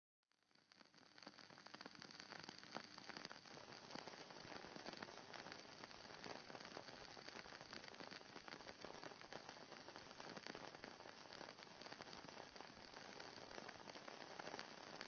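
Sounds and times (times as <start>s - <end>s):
faint crackling hiss: 0.3s - 15.0s.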